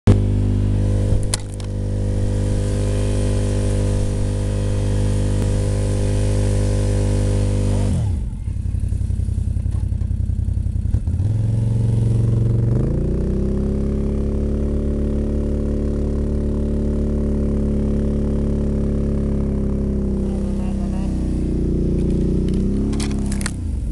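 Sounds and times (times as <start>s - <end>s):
quad bike engine: 0.0s - 23.9s.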